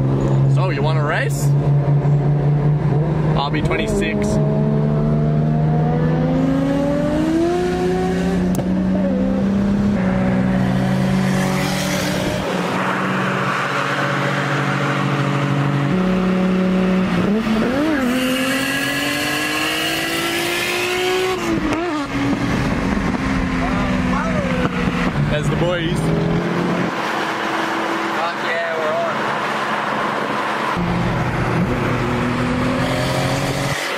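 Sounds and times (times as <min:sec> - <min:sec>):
car engines accelerating hard: 0:00.0 - 0:33.9.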